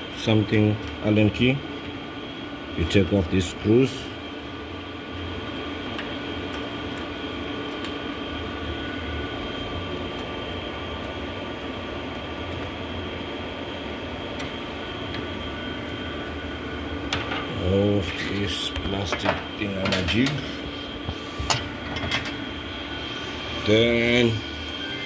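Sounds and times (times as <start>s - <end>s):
machinery fan hum: 0.0s - 25.0s.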